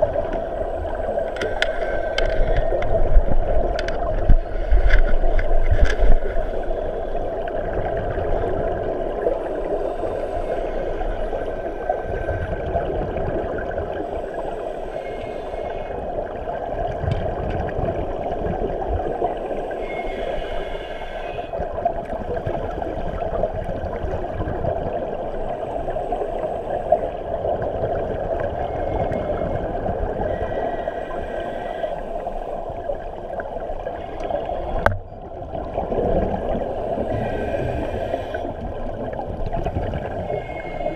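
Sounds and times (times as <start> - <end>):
diver bubbles gurgling: 0.0 - 40.9
muffled underwater rush: 0.0 - 40.9.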